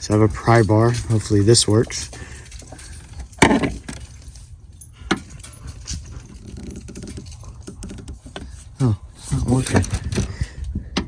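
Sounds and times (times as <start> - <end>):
metal pry bar clanking: 0.0 - 10.4.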